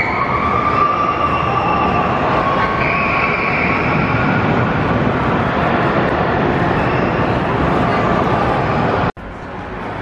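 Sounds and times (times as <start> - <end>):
roller coaster wheels rumbling: 0.3 - 10.0.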